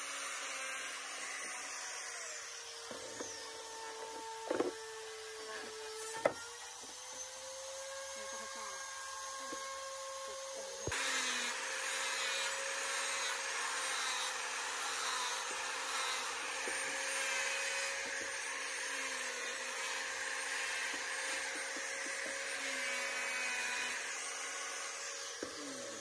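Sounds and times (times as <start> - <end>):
angle grinder sanding wood: 0.0 - 26.0.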